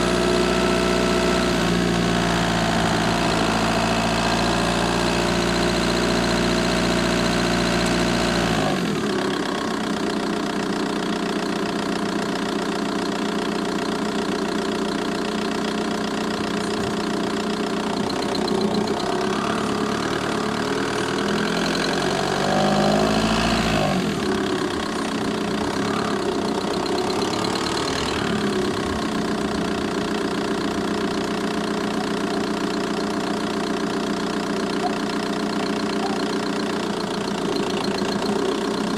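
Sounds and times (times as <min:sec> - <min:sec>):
diesel engine idling: 0:00.0 - 0:38.9
engine ticking: 0:00.0 - 0:38.9.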